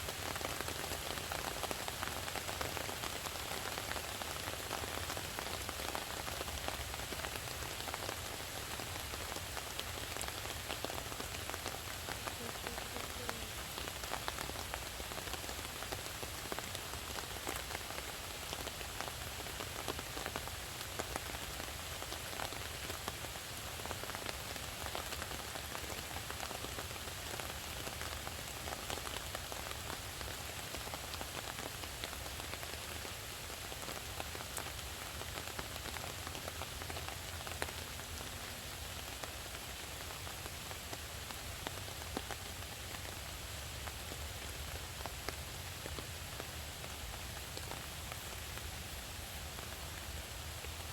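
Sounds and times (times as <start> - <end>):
raindrops ticking: 0.0 - 50.9
steady rain hiss: 0.0 - 50.9.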